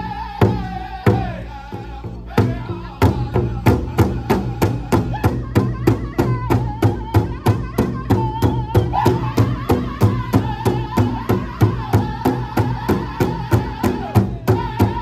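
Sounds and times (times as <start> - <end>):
group singing high-pitched: 0.0 - 15.0
large drum beating: 0.0 - 15.0.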